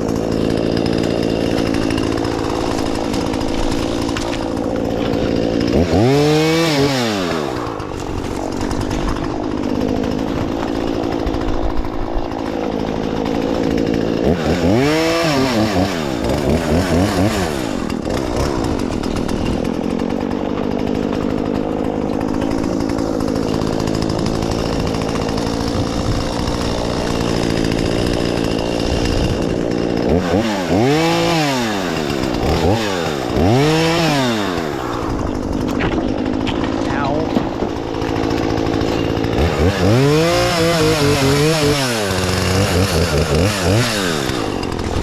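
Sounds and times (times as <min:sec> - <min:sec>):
chainsaw running and revving: 0:00.0 - 0:45.0.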